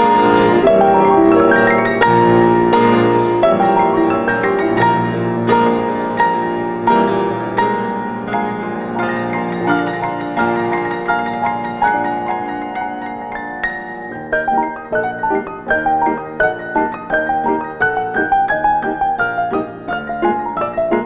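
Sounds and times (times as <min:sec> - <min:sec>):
solo piano playing: 0:00.0 - 0:21.0.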